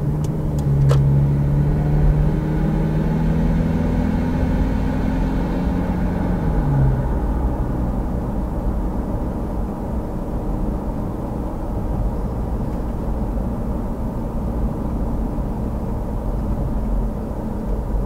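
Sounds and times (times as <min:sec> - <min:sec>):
car engine drone: 0:00.0 - 0:18.0
road rumble: 0:00.0 - 0:18.0.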